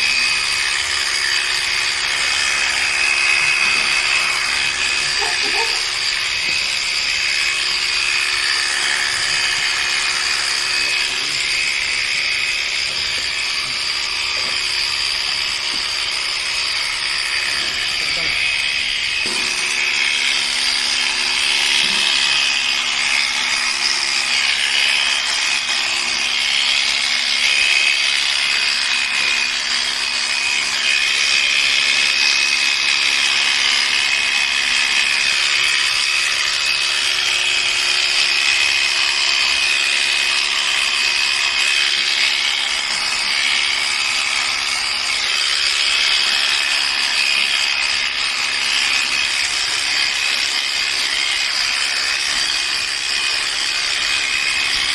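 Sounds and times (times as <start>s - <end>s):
electric clippers whining: 0.0s - 54.9s.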